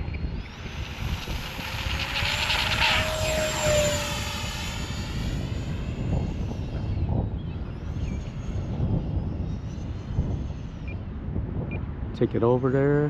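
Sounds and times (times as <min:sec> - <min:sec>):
model jet motor whining: 0:00.0 - 0:11.2
wind rumbling on microphone: 0:00.0 - 0:13.0.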